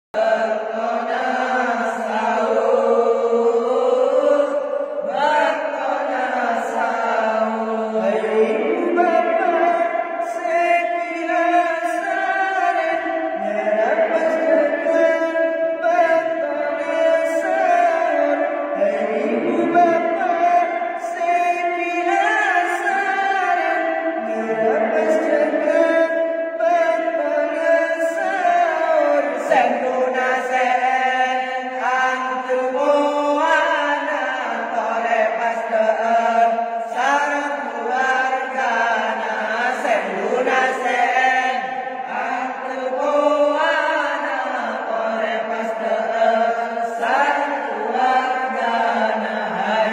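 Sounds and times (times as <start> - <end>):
men chanting into a microphone: 0.2 - 49.9.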